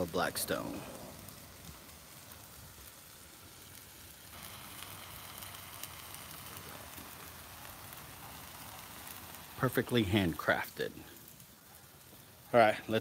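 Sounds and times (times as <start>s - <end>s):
burger patties sizzling on griddle: 0.0s - 13.0s.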